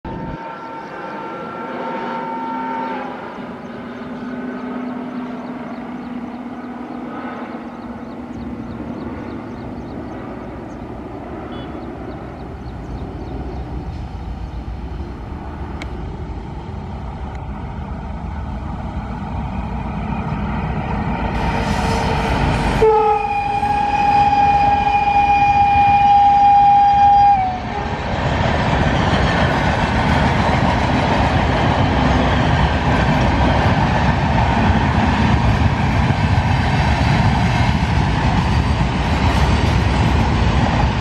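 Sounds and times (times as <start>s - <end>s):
locomotive hum: 0.1s - 41.0s
wheels rumbling on rails: 0.1s - 41.0s.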